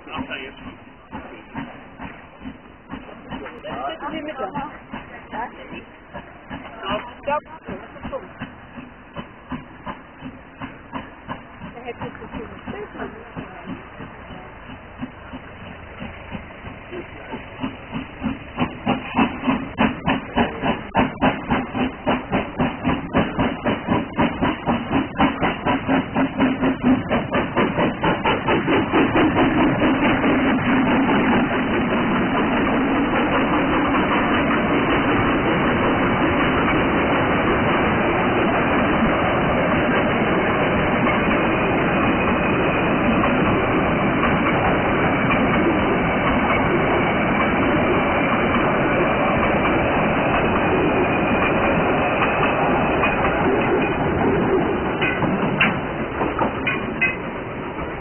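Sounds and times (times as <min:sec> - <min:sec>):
carriages rolling clatter: 0:00.0 - 0:58.0
steam locomotive chuffing: 0:00.0 - 0:58.0.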